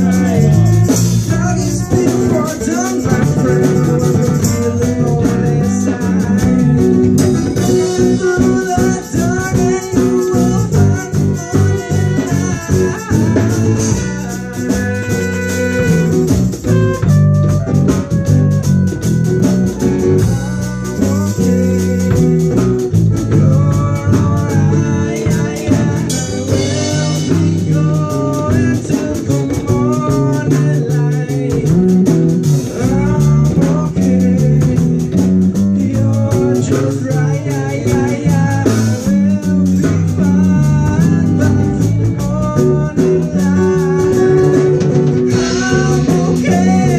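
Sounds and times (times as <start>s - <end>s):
guitar melody with bending notes: 0.0s - 46.9s
live blues band playing: 0.0s - 46.9s.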